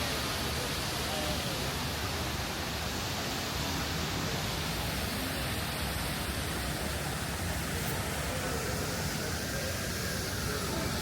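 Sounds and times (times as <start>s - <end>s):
city ambience: 0.0s - 11.0s.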